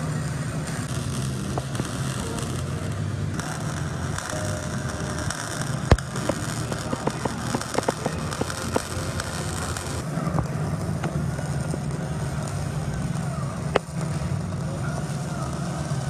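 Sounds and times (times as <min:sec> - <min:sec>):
low machinery hum: 0:00.0 - 0:16.0
steady hiss: 0:00.0 - 0:16.0.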